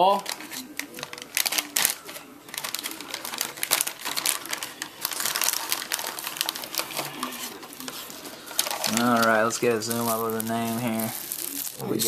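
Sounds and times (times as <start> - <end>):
packaging torn and crinkled: 0.2 - 12.0.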